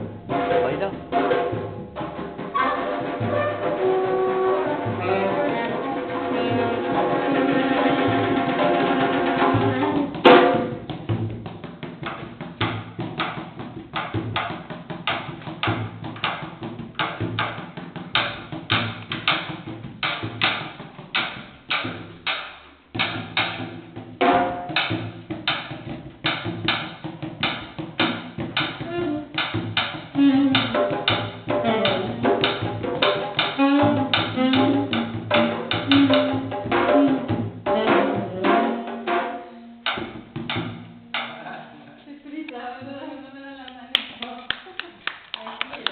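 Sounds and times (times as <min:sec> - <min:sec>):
hand drums playing rhythm: 0:00.0 - 0:41.9.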